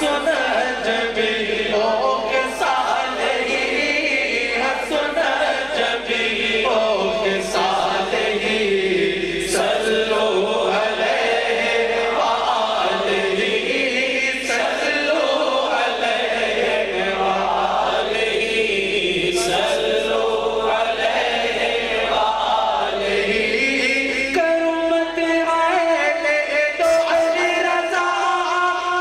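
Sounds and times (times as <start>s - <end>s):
man singing through a microphone: 0.0s - 21.0s, 22.9s - 29.0s
sustained backing voices: 0.0s - 24.4s.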